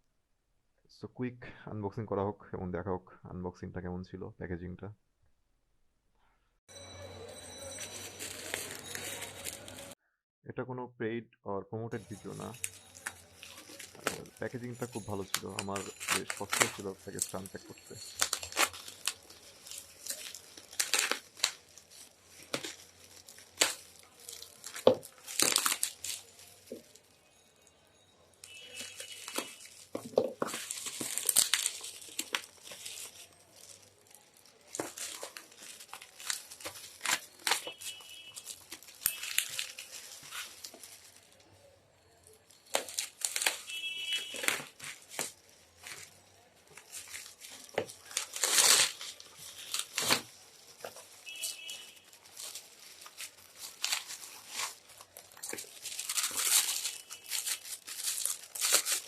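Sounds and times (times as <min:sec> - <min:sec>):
packaging crinkling and tearing: 0:07.8 - 0:10.0, 0:12.0 - 0:27.4, 0:28.3 - 0:59.0.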